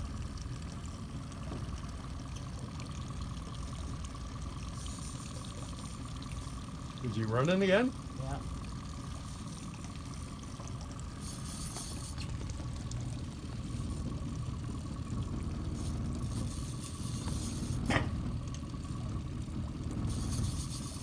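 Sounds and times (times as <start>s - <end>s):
boat motor running: 0.0s - 21.0s
water sloshing against hull: 0.0s - 21.0s.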